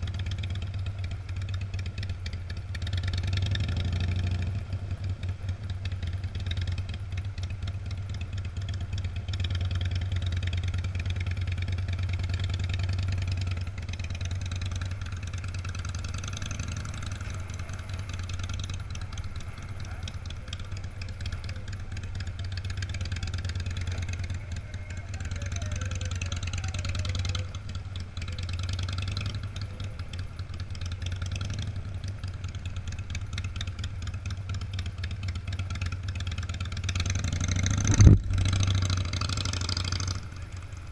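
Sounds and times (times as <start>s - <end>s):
car and motorcycle engines droning: 0.0s - 40.9s.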